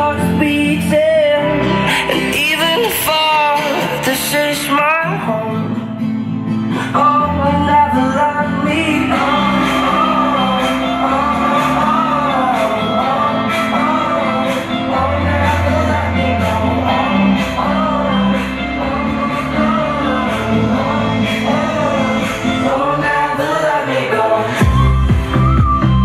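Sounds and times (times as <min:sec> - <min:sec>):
heavy bass line: 0:00.0 - 0:05.8, 0:07.2 - 0:26.0
person singing: 0:00.0 - 0:06.0, 0:06.6 - 0:26.0
pop song playing: 0:00.0 - 0:26.0.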